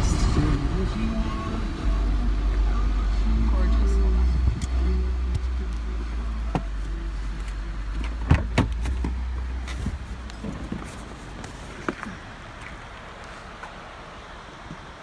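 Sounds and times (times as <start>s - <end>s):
car cabin road rumble: 0.0s - 15.0s.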